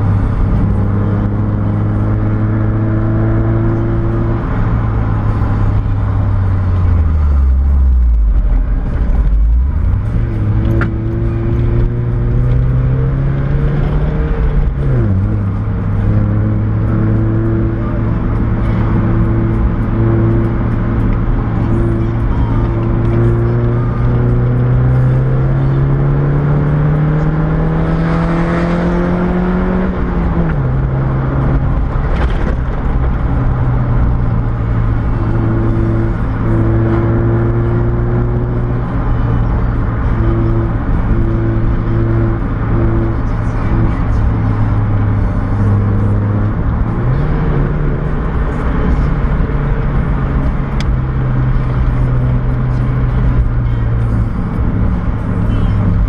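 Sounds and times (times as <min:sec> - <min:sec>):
car engine from inside cabin: 0:00.0 - 0:56.0
road noise: 0:00.0 - 0:56.0.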